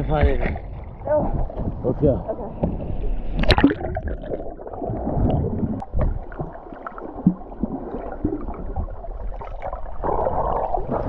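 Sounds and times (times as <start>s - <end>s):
muffled underwater water sloshing: 0.0s - 11.0s.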